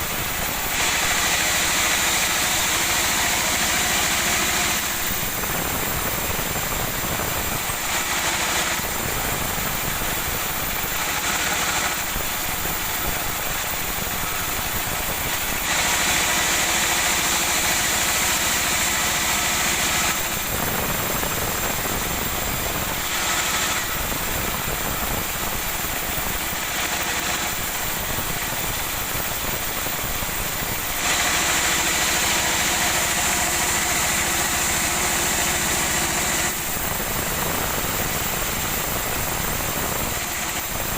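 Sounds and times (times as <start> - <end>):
machine motor hum: 0.0 - 40.9
saw cutting wood: 0.0 - 40.9.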